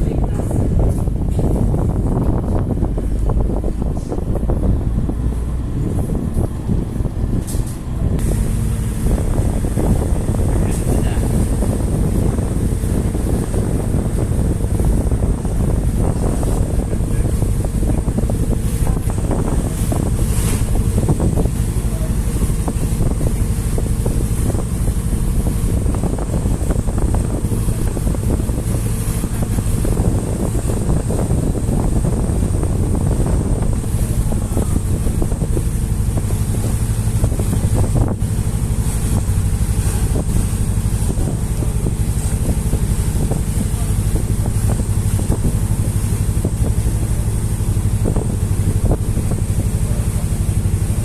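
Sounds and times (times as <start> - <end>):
boat engine droning: 0.0 - 51.0
wind buffeting microphone: 0.0 - 51.0.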